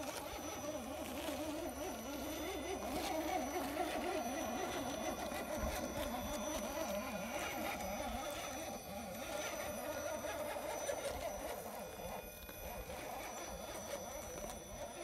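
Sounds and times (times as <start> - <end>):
electric motor whining under load: 0.0 - 15.0.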